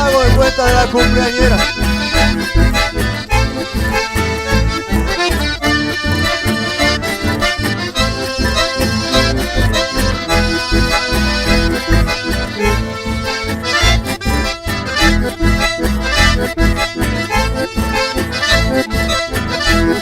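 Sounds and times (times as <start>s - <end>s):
accordion melody: 0.0s - 20.0s
pulsed bass accompaniment: 0.0s - 20.0s.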